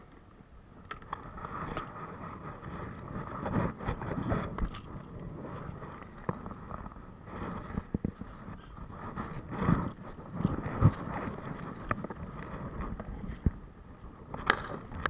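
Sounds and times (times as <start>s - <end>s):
steady rushing noise: 0.0s - 15.0s
footsteps on rocky path: 1.0s - 15.0s.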